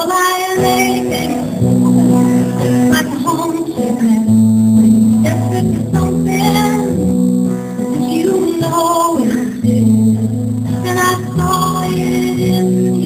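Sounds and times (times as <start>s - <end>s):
acoustic guitar chords: 0.0s - 13.0s
woman singing: 0.0s - 13.0s.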